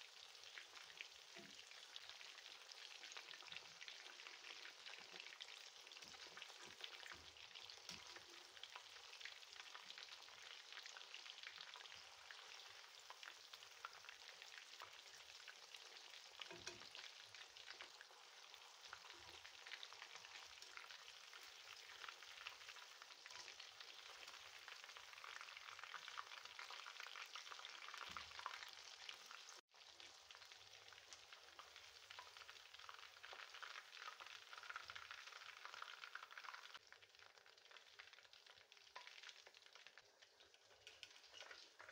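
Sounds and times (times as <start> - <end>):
chicken wings sizzling in oil: 0.0 - 41.9.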